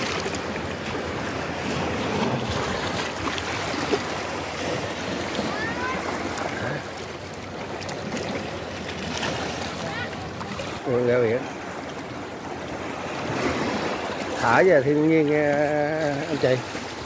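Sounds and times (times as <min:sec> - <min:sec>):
surf washing among rocks: 0:00.0 - 0:17.0.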